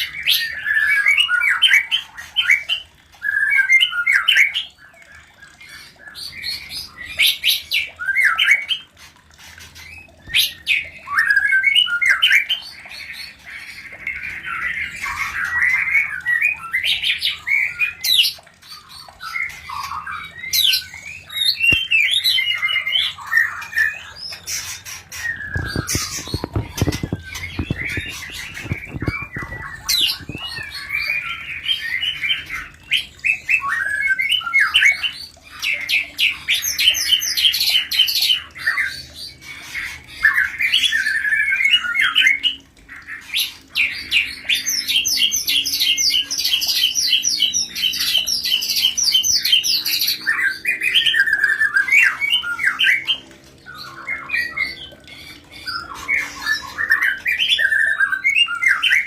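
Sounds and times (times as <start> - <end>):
birds chattering and squawking: 0.0 - 59.0.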